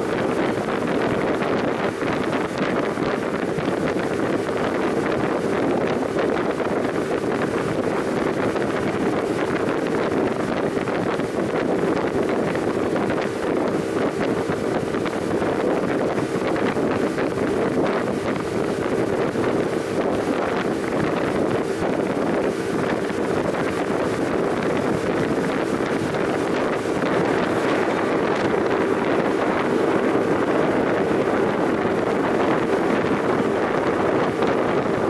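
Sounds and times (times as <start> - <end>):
boat engine droning: 0.0 - 35.0
wind on microphone: 0.0 - 35.0.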